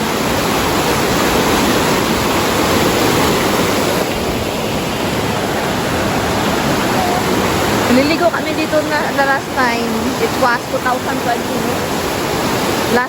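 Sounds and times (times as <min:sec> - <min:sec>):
fast river rushing: 0:00.0 - 0:13.0.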